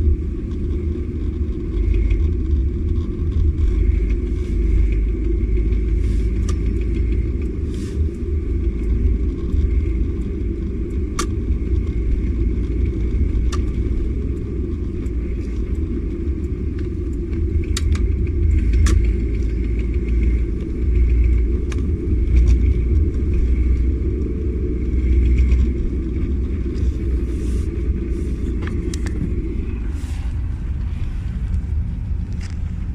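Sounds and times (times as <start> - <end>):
car driving rumble: 0.0 - 32.9.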